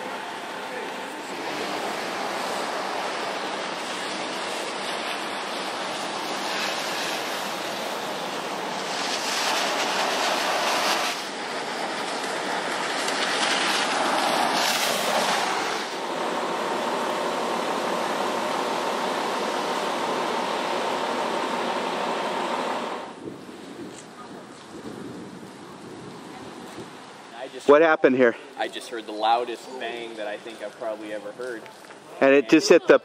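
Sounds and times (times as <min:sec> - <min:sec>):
storm wind: 0:00.0 - 0:27.4
rain rushing: 0:00.0 - 0:32.8.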